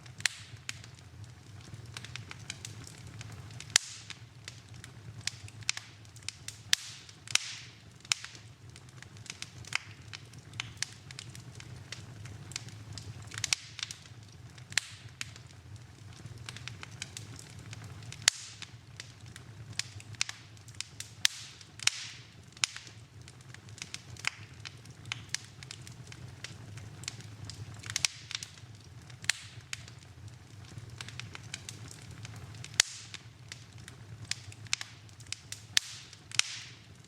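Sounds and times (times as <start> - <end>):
low rumble of flames: 0.0 - 37.0
wood fire crackling and popping: 0.0 - 37.0.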